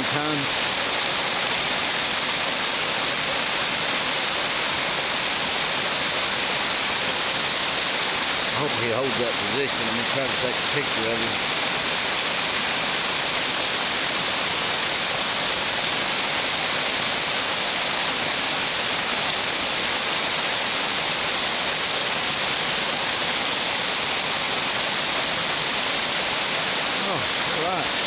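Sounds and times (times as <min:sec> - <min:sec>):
creek cascading over rocks: 0:00.0 - 0:28.0
waterfall rushing: 0:00.0 - 0:28.0.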